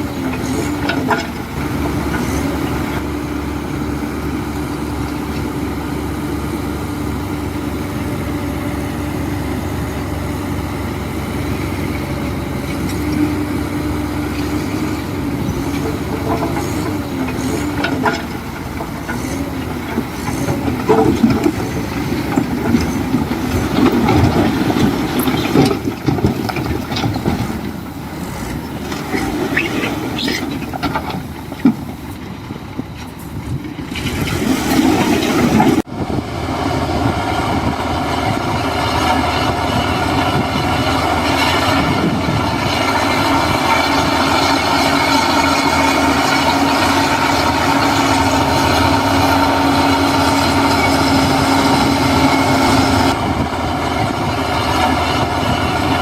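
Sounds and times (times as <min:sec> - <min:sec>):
diesel machine engine running: 0:00.0 - 0:56.0.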